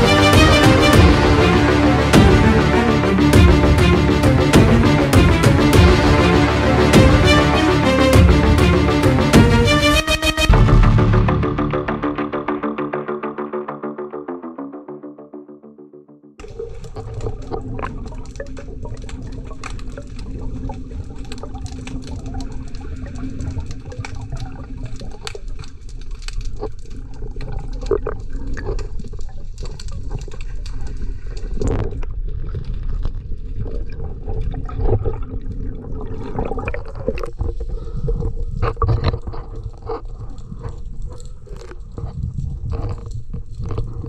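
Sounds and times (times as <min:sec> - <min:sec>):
muffled underwater water rushing: 0:00.0 - 0:12.6, 0:16.4 - 0:44.0.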